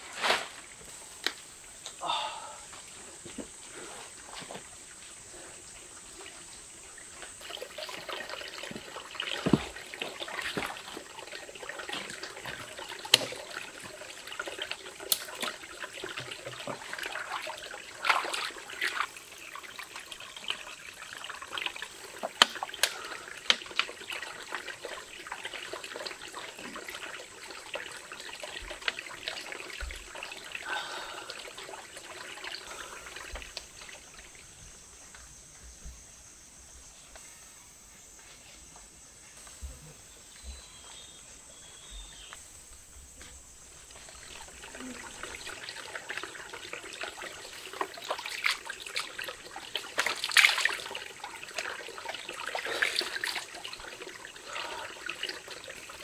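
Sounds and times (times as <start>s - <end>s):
water trickling and splashing: 0.0s - 35.4s, 40.2s - 56.0s.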